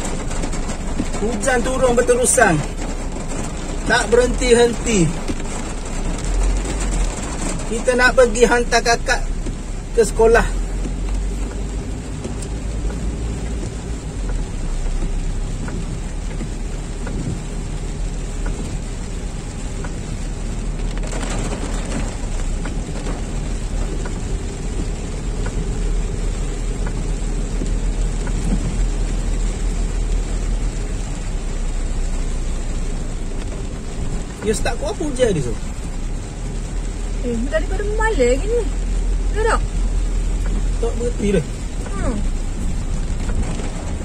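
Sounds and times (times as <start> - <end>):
car engine and tyres rumble: 0.0 - 44.0
heavy rain on car roof: 0.0 - 44.0.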